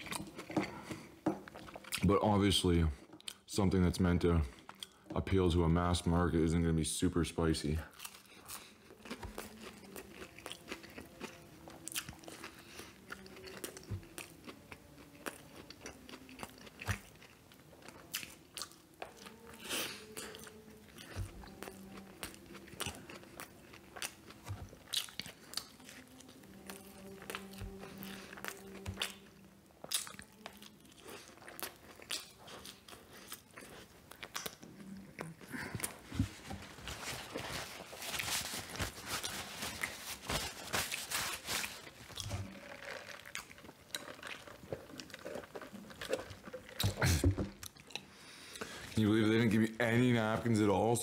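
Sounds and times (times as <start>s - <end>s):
chewing and crunching food: 0.0s - 5.2s, 7.4s - 50.6s.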